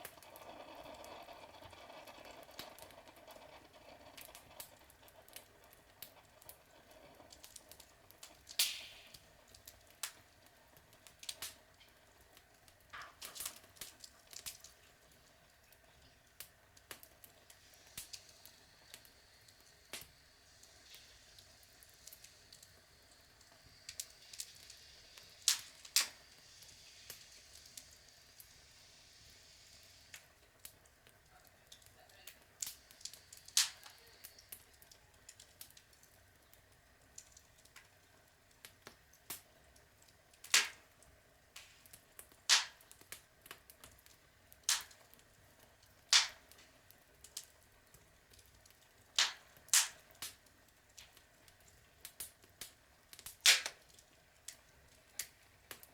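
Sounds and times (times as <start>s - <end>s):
faint steady hiss: 0.0s - 55.9s
log fire crackling: 0.0s - 55.9s.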